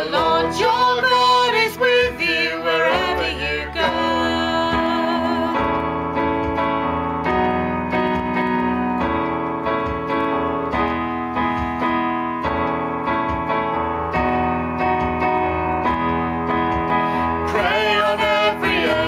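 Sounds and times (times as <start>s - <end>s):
electric piano sustained chords: 0.0s - 19.0s.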